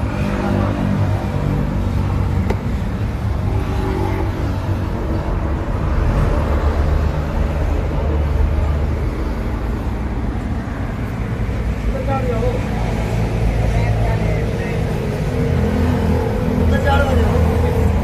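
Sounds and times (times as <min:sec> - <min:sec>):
truck engine rumble: 0:00.0 - 0:18.0.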